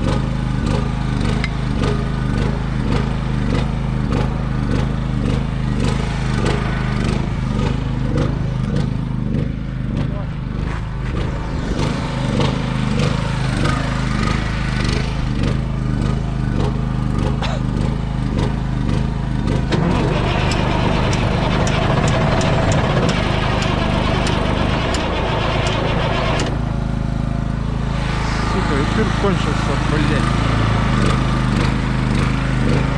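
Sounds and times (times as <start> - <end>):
engine droning: 0.0 - 32.9.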